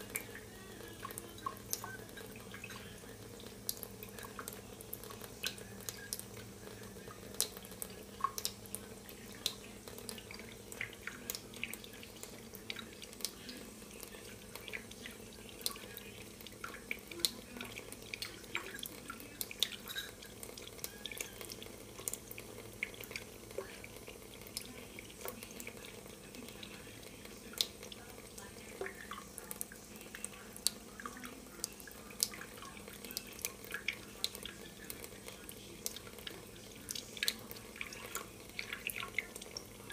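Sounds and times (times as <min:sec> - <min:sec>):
drips splashing on steel: 0:00.0 - 0:39.9
faucet trickling into steel sink: 0:00.0 - 0:39.9.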